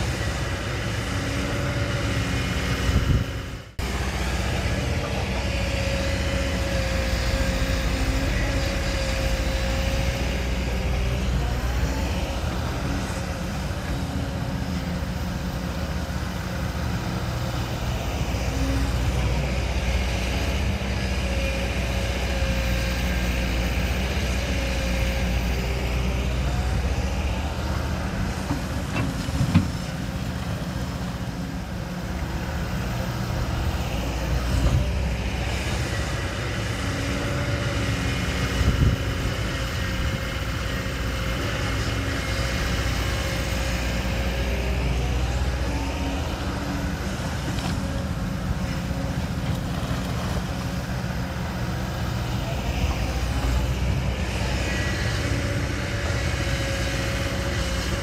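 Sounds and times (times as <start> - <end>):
diesel machinery engine running: 0.0 - 58.0.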